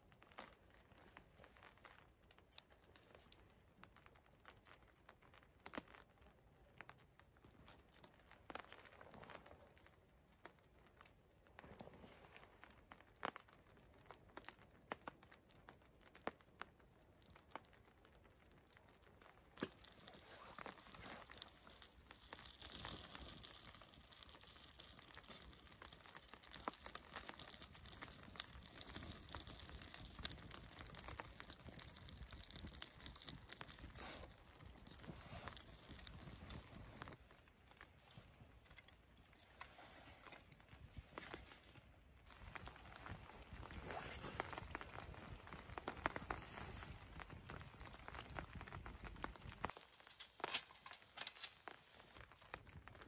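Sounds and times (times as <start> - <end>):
flames hissing and crackling: 0.0 - 53.0.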